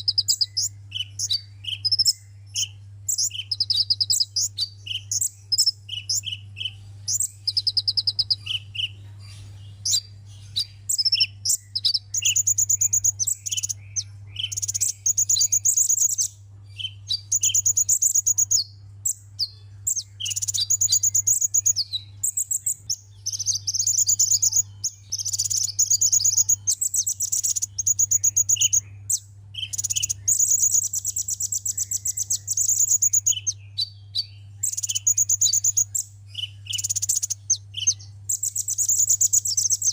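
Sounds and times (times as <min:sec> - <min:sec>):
bird chirps: 0:00.0 - 0:39.9
bird trilling: 0:00.0 - 0:39.9
steady low hum: 0:00.0 - 0:39.9.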